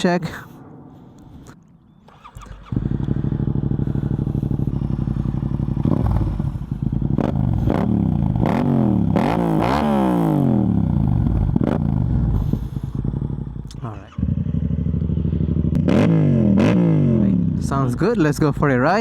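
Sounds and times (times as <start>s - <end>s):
motorcycle engine idling and revving: 1.9s - 19.0s.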